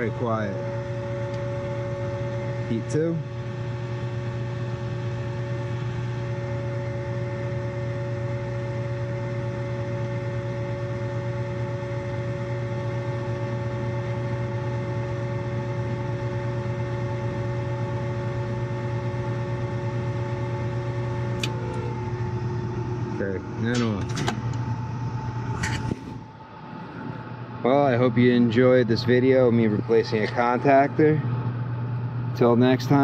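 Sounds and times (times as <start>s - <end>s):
rooftop hvac unit humming: 0.0s - 33.0s.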